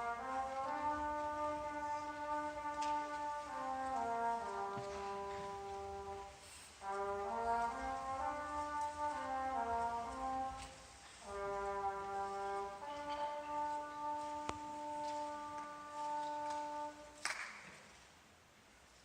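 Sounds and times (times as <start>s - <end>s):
brass band playing chords: 0.0s - 17.2s.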